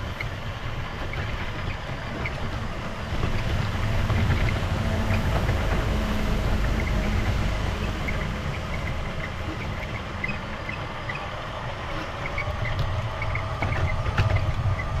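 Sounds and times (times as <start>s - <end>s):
toy truck motor and tyres rumbling: 0.0s - 15.0s.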